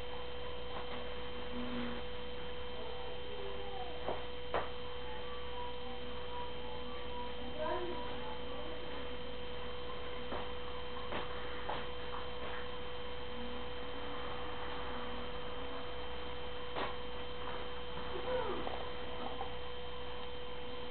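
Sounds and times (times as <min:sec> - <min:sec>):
steady hum: 0:00.0 - 0:20.9.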